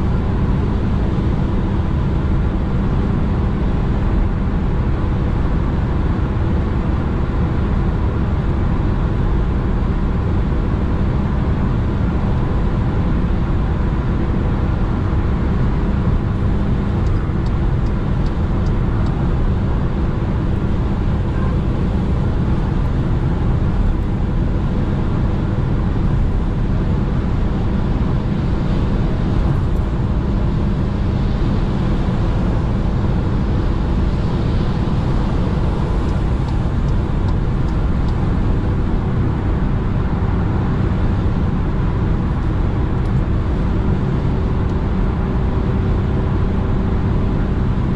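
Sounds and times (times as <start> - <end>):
car engine drone: 0.0 - 47.9
tyres on road: 0.0 - 47.9.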